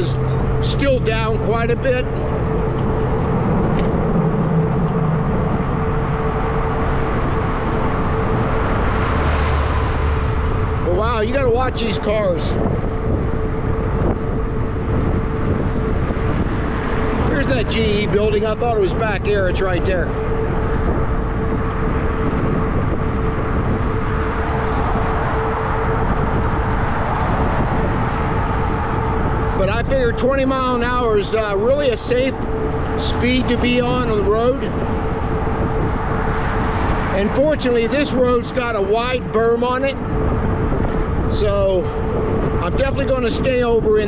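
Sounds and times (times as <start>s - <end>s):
steady hum: 0.0s - 44.0s
steady motor whine: 0.0s - 44.0s
wind on microphone: 0.0s - 44.0s.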